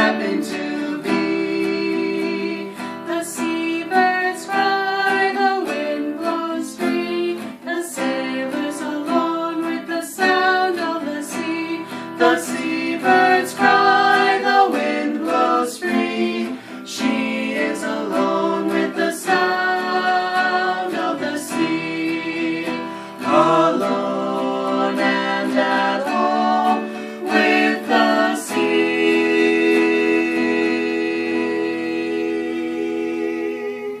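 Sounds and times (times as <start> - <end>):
plucked acoustic guitar: 0.0 - 34.0
woman singing: 0.0 - 34.0.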